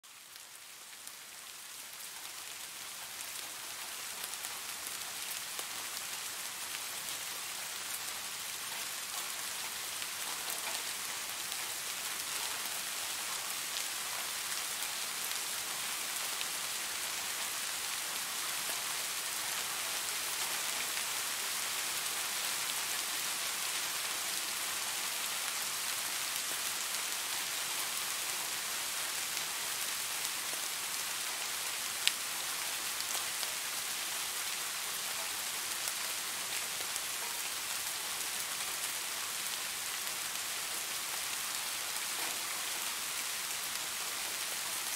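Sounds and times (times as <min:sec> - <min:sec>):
light rain on foliage: 0:00.0 - 0:44.9.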